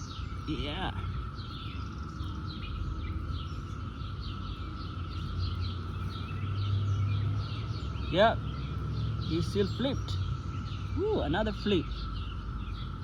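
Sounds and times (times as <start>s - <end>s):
bird chirping: 0.0s - 13.0s
cicadas droning: 0.0s - 13.0s.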